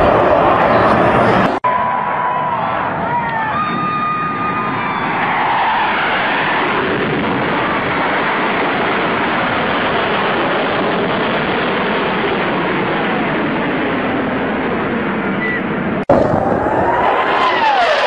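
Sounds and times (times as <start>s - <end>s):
fighter jet roaring past: 0.0s - 18.0s.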